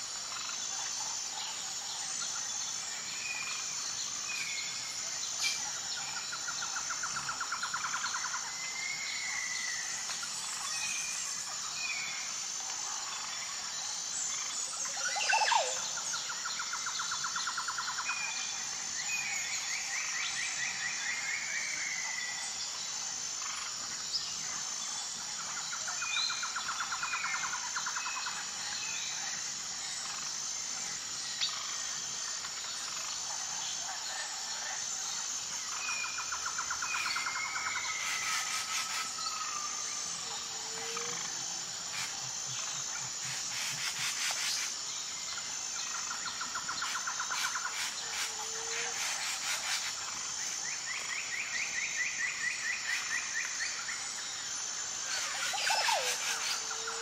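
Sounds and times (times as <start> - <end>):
high insect buzz: 0.0 - 57.0.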